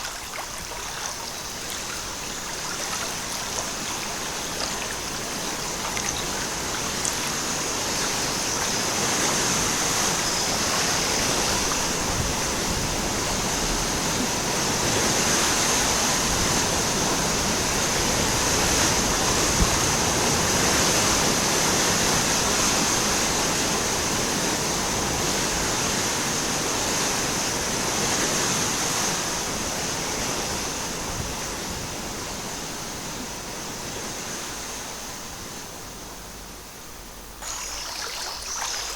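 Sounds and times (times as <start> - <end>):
stream water rushing: 0.0 - 30.4, 37.4 - 38.9.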